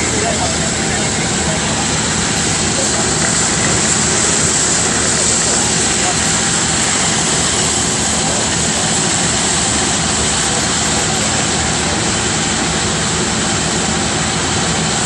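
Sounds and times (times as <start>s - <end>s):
wire saw cutting concrete: 0.0s - 13.8s.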